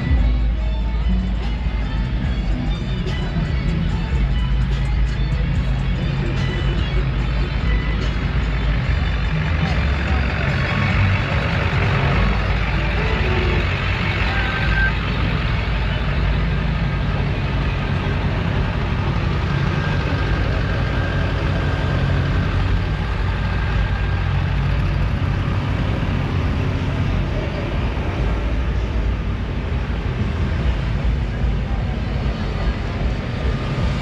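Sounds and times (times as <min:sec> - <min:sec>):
outdoor background noise: 0:00.0 - 0:34.0
truck engine humming: 0:00.0 - 0:34.0.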